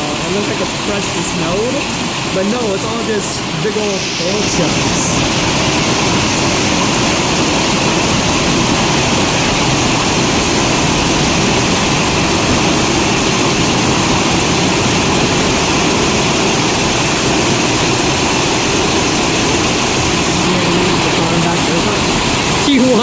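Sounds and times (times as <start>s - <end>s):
hail and rain falling hard: 0.0s - 23.0s.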